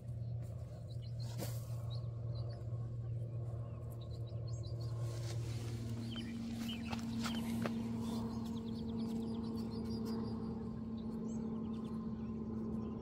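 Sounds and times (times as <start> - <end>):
higher steady drone: 0.0 - 13.0
small birds chirping: 0.0 - 13.0
steady low hum: 0.0 - 13.0.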